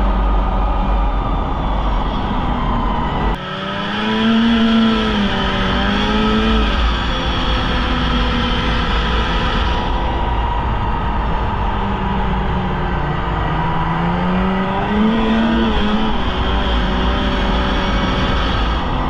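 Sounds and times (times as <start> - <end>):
snowmobile engine revving: 1.8 - 19.0.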